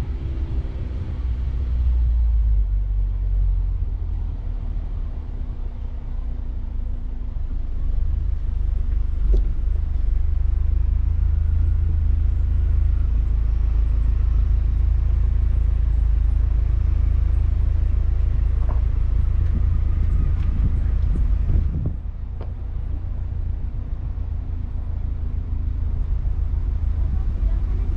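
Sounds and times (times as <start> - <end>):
car rumbling over rough trail: 0.0 - 27.9.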